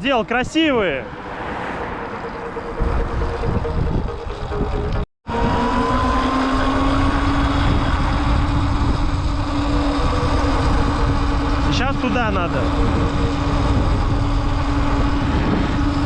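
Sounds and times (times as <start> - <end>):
electric motor whine: 2.5 - 16.0
wind rumble on microphone: 2.7 - 16.0.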